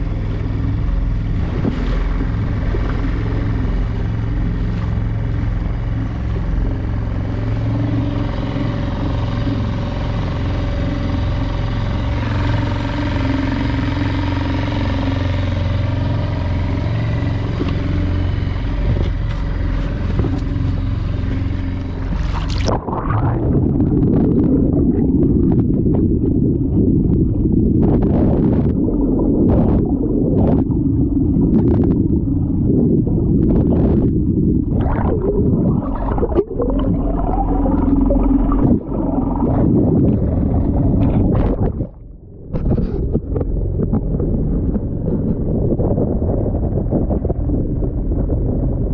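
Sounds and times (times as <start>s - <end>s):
muffled underwater churning: 0.0s - 48.9s
outboard motor running: 0.0s - 48.9s.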